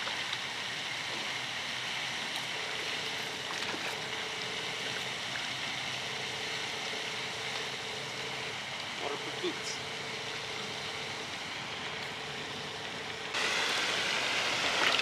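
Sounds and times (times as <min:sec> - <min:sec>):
faint steady hum: 0:00.0 - 0:15.0
fountain water splashing: 0:00.0 - 0:15.0.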